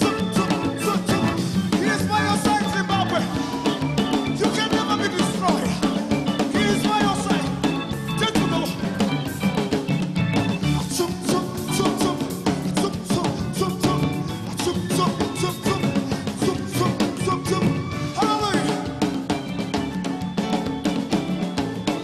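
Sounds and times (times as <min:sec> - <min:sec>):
person singing: 0:00.0 - 0:09.2, 0:10.6 - 0:19.2
live gospel band: 0:00.0 - 0:22.0.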